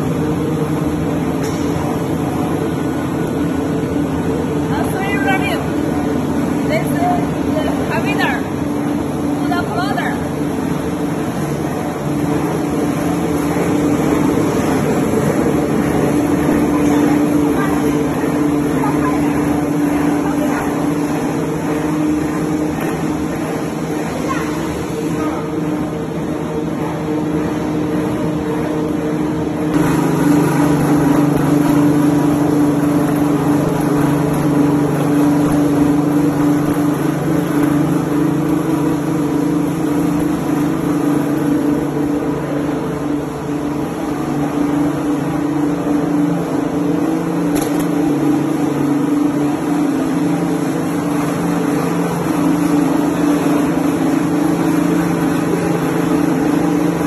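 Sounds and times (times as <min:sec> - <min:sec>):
machinery electric hum: 0:00.0 - 0:57.0.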